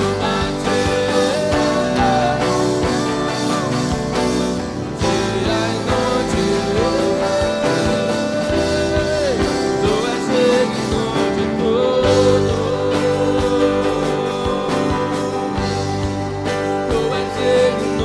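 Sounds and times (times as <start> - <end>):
live worship band music: 0.0 - 18.0.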